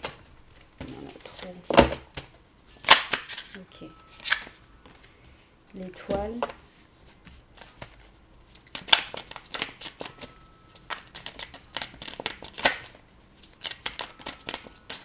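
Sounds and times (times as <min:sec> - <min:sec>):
cards being shuffled: 0:00.0 - 0:05.4, 0:06.1 - 0:15.0.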